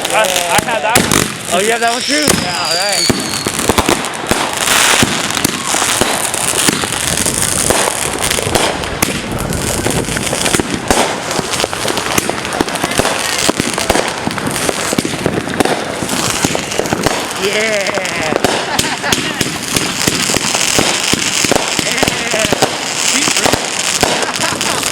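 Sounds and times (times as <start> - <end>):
firecrackers crackling: 0.0 - 24.9.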